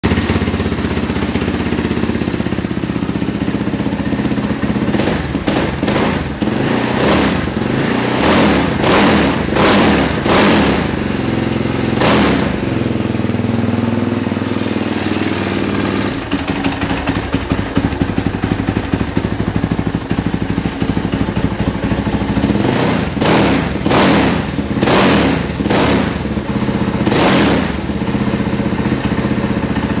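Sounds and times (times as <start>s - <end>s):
atv engine idling: 0.0s - 30.0s
engine throttle blips: 0.0s - 30.0s.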